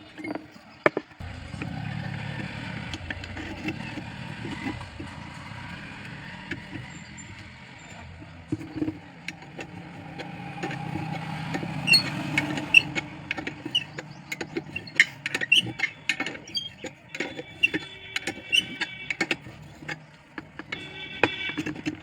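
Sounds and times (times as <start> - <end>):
metal parts and tools clinking: 2.4 - 22.0.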